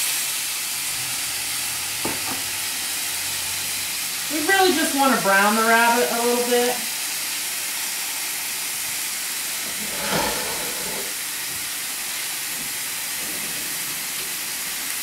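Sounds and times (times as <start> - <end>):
meat sizzling in a frying pan: 0.0 - 10.1, 11.1 - 15.0.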